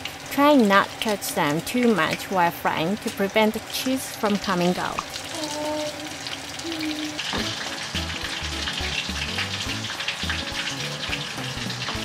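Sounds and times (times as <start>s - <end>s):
cutlets sizzling in hot oil: 0.0s - 12.0s.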